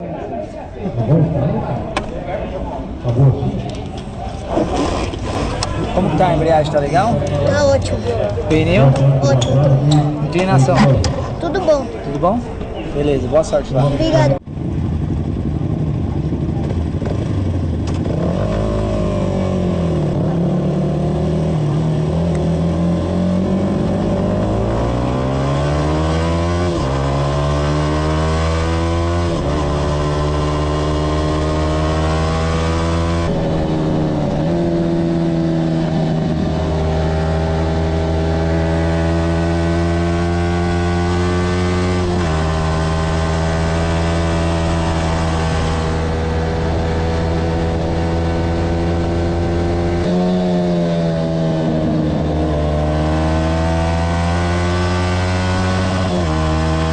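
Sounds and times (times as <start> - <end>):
motorcycle engine accelerating: 0.9 - 12.8, 13.6 - 56.9.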